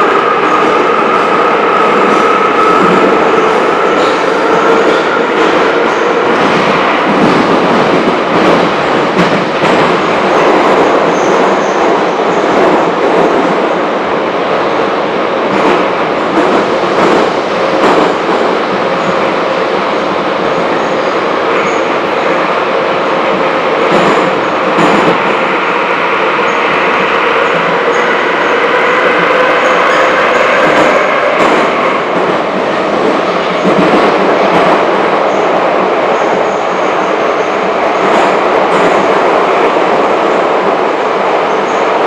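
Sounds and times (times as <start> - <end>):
steel wheels rumbling on rail: 0.0 - 42.0.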